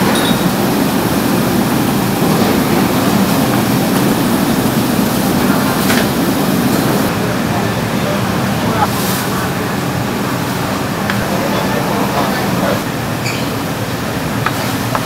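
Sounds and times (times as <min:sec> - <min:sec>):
kitchen ventilation rumble: 0:00.0 - 0:15.0.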